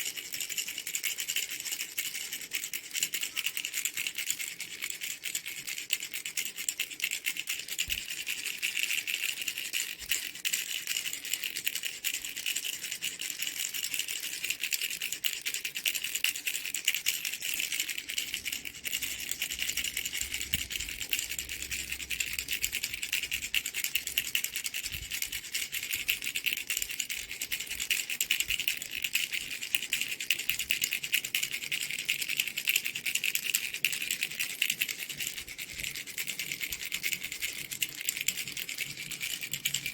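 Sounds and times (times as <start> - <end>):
baby's toy rattle shaking: 0.0 - 39.9.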